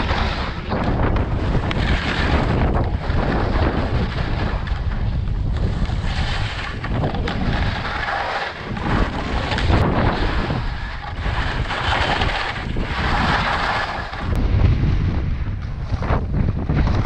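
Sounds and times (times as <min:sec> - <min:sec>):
skis scraping over snow: 0:00.0 - 0:14.4
wind buffeting microphone: 0:00.0 - 0:17.0.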